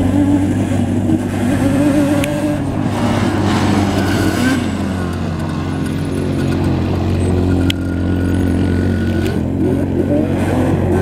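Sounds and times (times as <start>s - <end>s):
quad bike engine revving: 0.0s - 11.0s
tyres on gravel: 0.0s - 11.0s.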